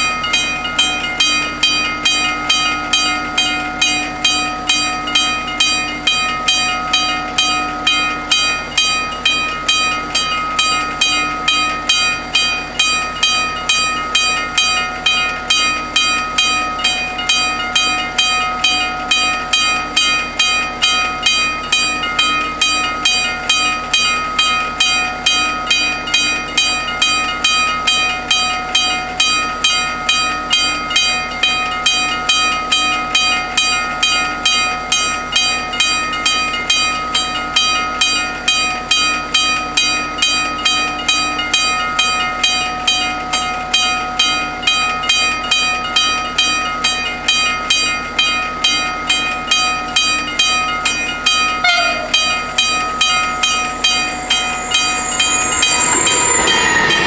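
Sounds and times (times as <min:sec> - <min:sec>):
level crossing bells ringing: 0:00.0 - 0:57.0.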